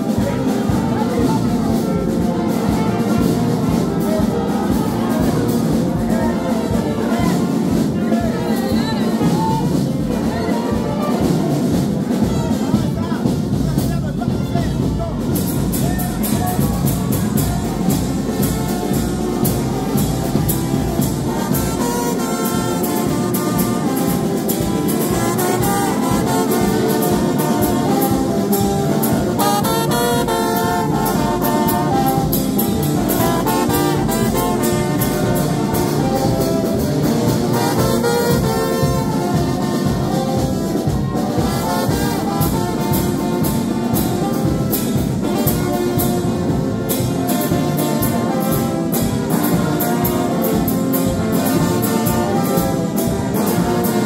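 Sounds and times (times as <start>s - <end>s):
brass band playing: 0.0s - 54.0s
steady drum beat: 0.0s - 54.0s.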